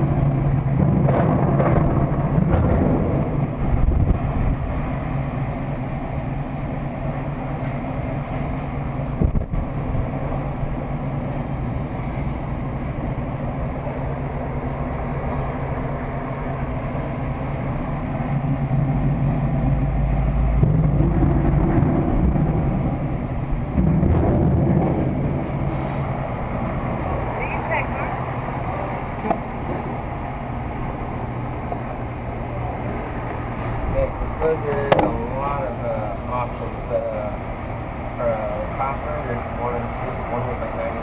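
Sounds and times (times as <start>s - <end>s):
vehicle rumble in motion: 0.0s - 41.0s.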